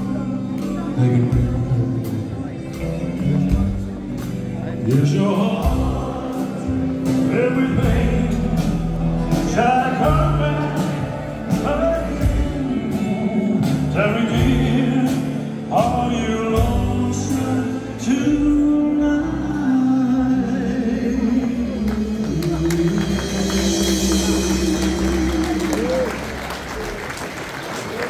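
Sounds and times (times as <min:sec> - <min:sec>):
person singing: 0:00.0 - 0:26.9
live band playing ballad: 0:00.0 - 0:28.0.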